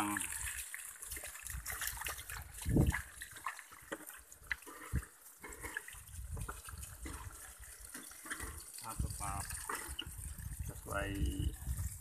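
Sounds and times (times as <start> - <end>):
feet wading through water: 0.0 - 12.0.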